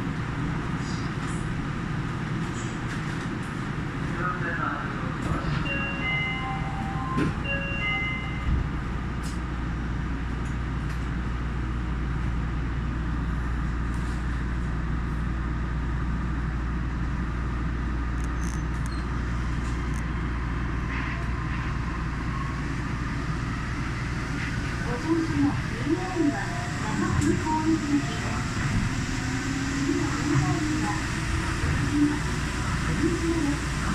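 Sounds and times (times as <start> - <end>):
monorail car running: 0.0 - 33.9.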